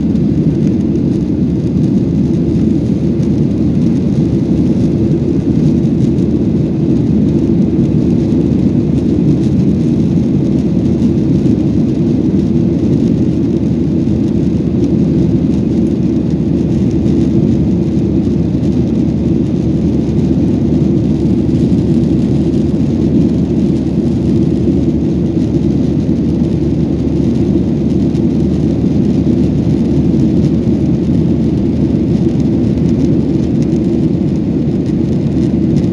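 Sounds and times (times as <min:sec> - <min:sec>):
jet engine cabin rumble: 0:00.0 - 0:35.9.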